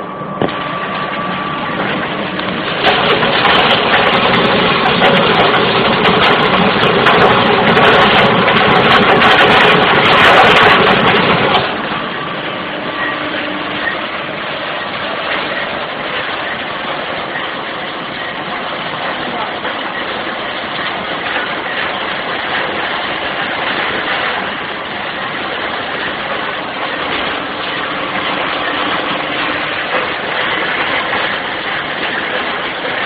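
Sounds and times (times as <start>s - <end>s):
oil press mechanical grinding: 0.4s - 33.0s.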